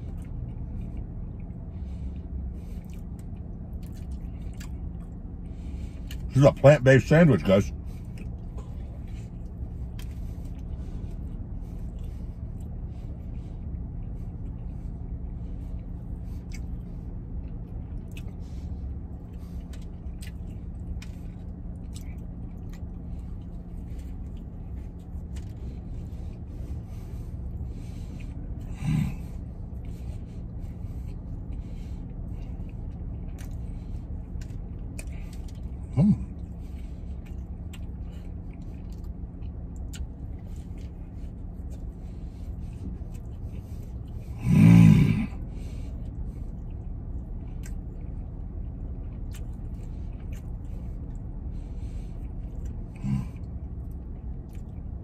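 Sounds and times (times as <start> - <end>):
man chewing food: 0.0 - 6.3, 7.4 - 55.0
low hum in a truck cab: 0.0 - 55.0.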